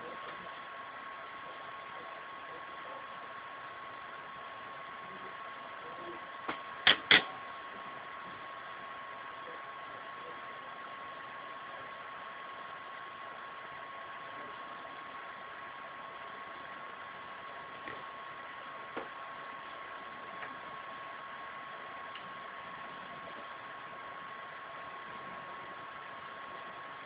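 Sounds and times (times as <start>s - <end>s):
faint high whine: 0.0s - 27.0s.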